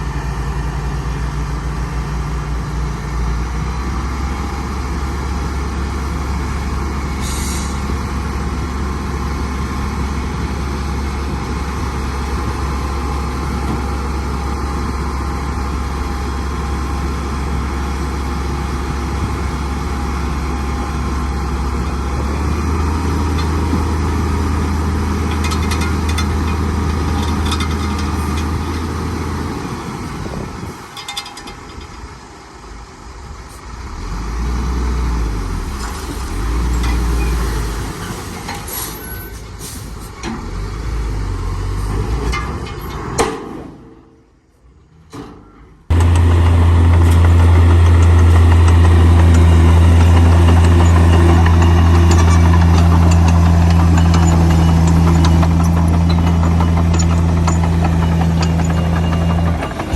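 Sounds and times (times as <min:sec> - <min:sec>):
diesel engine running under work: 0:00.0 - 0:43.1, 0:45.5 - 0:59.9.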